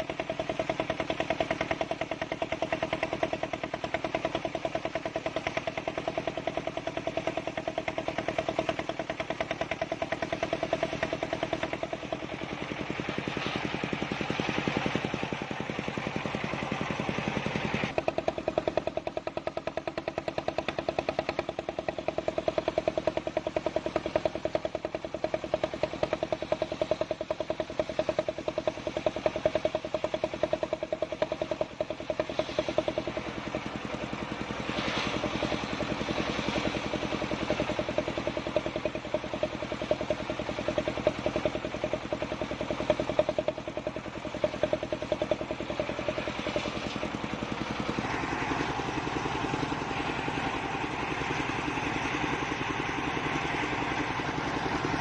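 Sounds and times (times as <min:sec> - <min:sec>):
saw blade cutting log: 0:00.0 - 0:55.0
sawmill engine running: 0:00.0 - 0:55.0.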